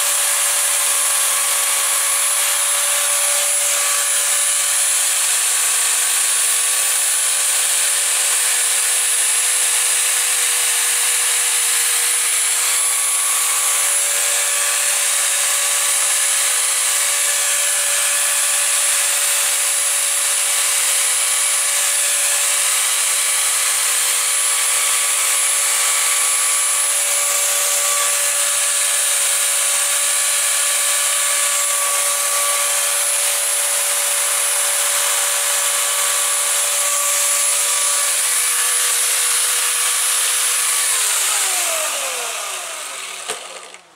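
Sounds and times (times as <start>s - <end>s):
electric chainsaw running: 0.0s - 43.9s.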